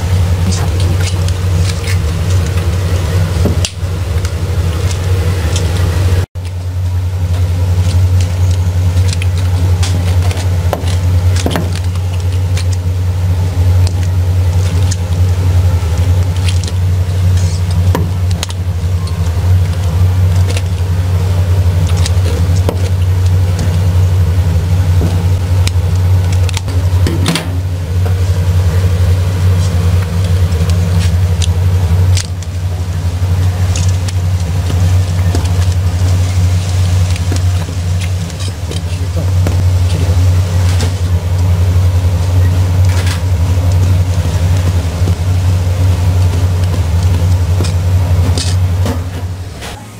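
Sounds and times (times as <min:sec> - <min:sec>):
machine humming: 0:00.0 - 0:49.9.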